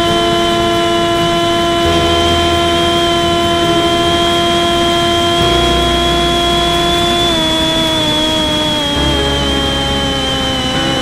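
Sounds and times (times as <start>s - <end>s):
drone motor whine: 0.0s - 11.0s
low wind rumble: 0.0s - 11.0s.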